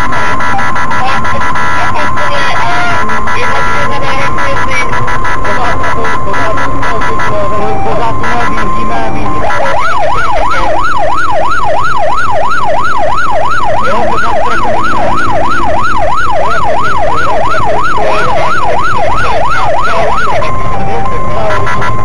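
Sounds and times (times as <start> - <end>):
police siren yelping: 0.0 - 22.0.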